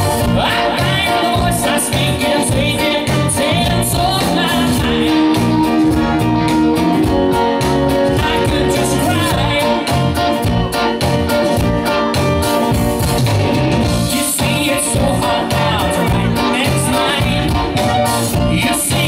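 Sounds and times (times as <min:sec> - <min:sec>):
bass guitar: 0:00.0 - 0:19.0
drum kit: 0:00.0 - 0:19.0
electric guitars: 0:00.0 - 0:19.0
keyboard: 0:00.0 - 0:19.0.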